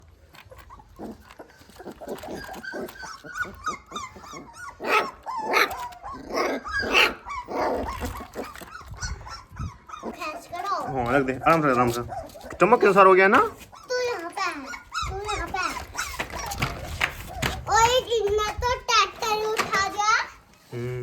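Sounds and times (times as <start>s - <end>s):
puppy whining and yelping: 0.0s - 20.5s.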